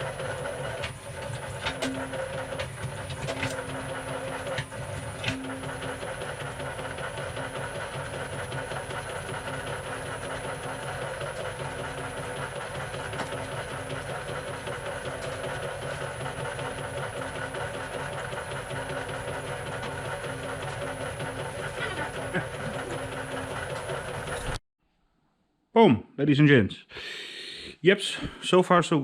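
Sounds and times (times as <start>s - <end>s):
machine mechanical clatter: 0.0s - 24.6s.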